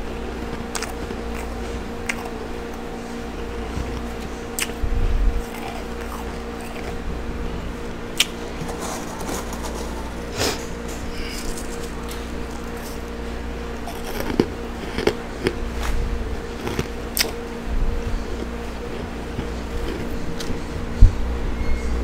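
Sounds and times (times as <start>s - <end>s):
frost crunching: 0.0s - 20.7s
steady low hum: 0.0s - 22.0s.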